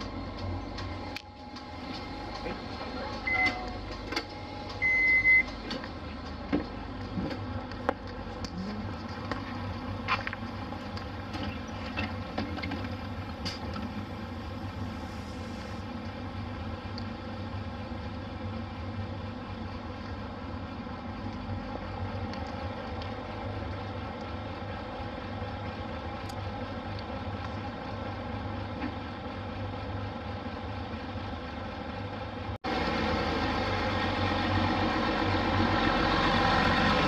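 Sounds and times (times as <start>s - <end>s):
diesel bus engine idling: 0.0s - 37.0s.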